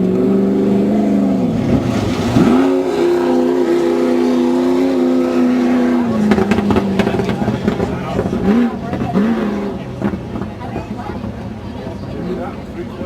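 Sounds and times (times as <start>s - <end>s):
buggy engine running hard: 0.0s - 13.0s.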